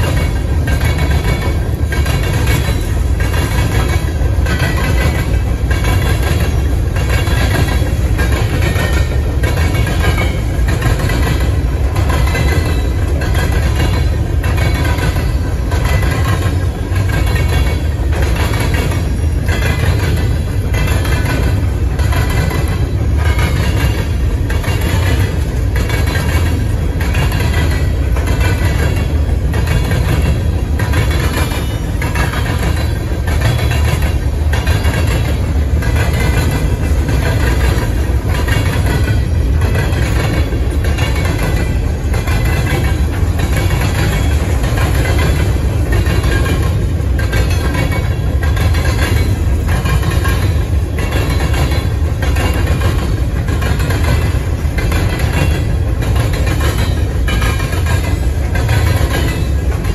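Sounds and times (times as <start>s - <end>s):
train wheels rumbling on rail: 0.0s - 59.9s
wheels click-clacking: 0.0s - 59.9s.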